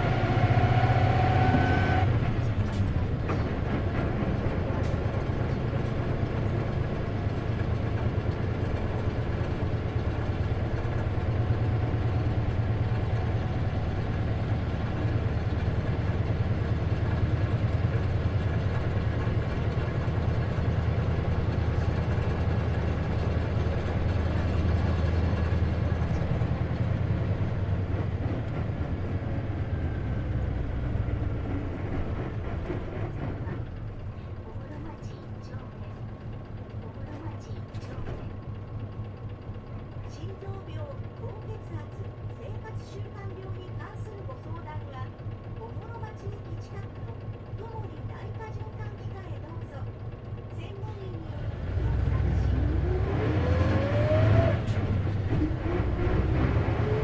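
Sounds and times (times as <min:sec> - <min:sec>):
road noise: 0:00.0 - 0:40.1, 0:50.3 - 0:57.0
diesel engine humming: 0:00.0 - 0:57.0.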